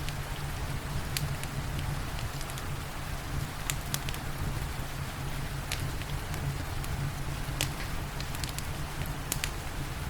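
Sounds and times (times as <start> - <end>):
wood fire crackling and popping: 0.9 - 4.8, 5.4 - 9.8.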